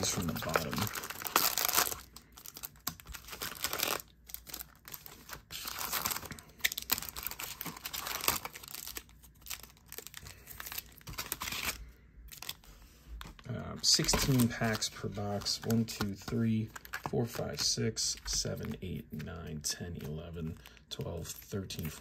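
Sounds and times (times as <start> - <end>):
foil packs crinkling: 0.0 - 17.6, 19.9 - 22.0.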